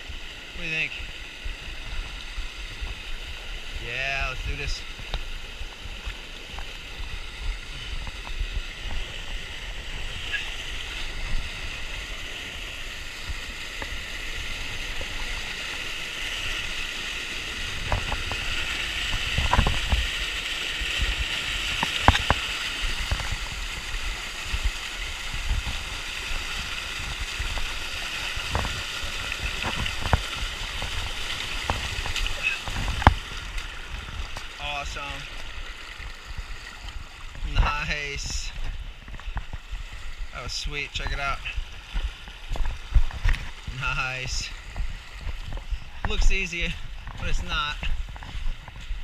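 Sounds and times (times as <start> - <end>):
water rushing over waterfall: 0.0 - 49.0.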